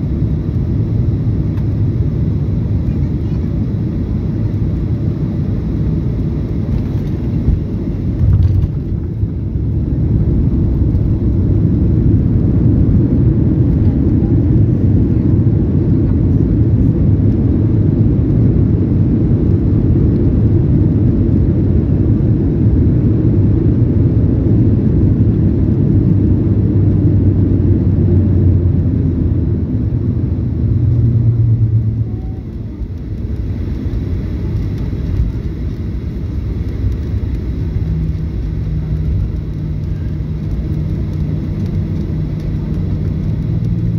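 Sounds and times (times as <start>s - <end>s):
jet engines and runway rumble: 0.0s - 43.9s.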